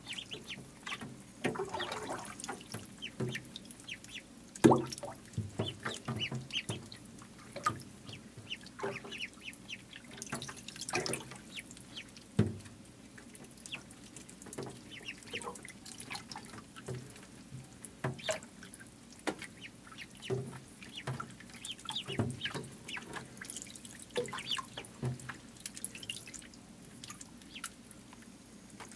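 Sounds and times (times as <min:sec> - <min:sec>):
ducklings peeping: 0:00.0 - 0:26.6, 0:27.2 - 0:27.8.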